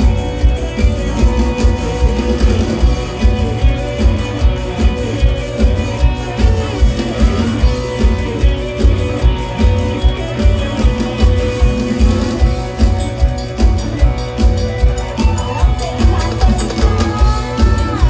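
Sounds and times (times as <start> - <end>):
driving drum beat: 0.0 - 18.0
live band music: 0.0 - 18.0.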